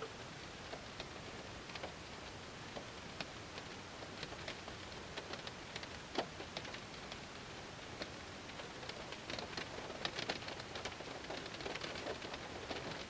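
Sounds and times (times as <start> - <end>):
rain pattering on car: 0.0 - 13.0.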